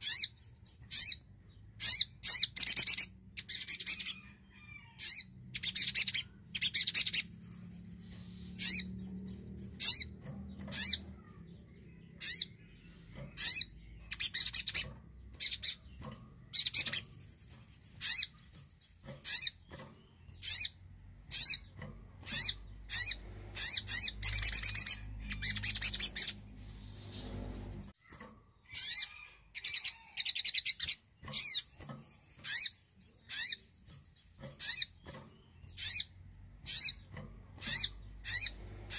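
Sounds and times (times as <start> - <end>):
bird chattering trills: 0.0 - 38.9.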